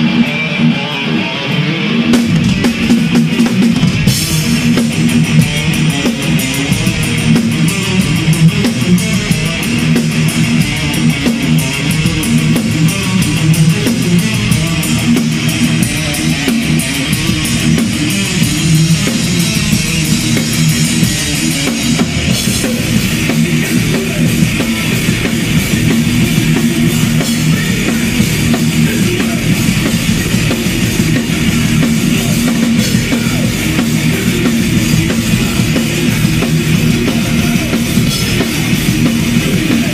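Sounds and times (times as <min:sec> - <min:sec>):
distorted electric guitar: 0:00.0 - 0:39.9
fast metal drumming: 0:01.7 - 0:39.9.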